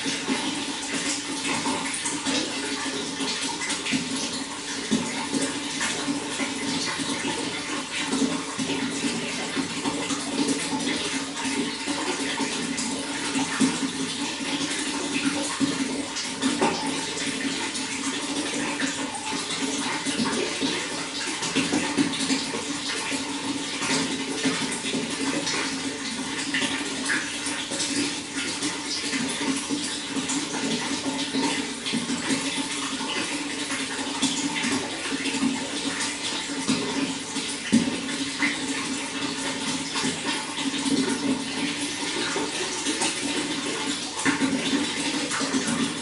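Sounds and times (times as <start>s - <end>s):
running water rushing: 0.0s - 46.0s.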